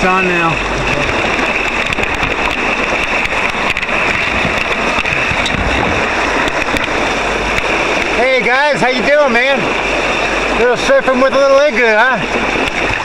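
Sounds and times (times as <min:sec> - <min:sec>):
rushing water and spray: 0:00.0 - 0:13.0
wind hitting microphone: 0:00.0 - 0:13.0.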